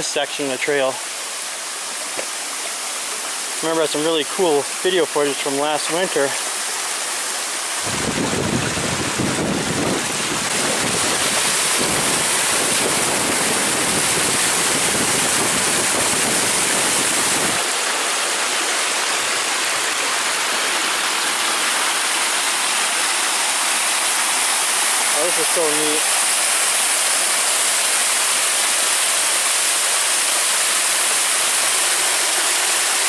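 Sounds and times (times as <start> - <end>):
waterfall rushing over rocks: 0.0 - 33.0.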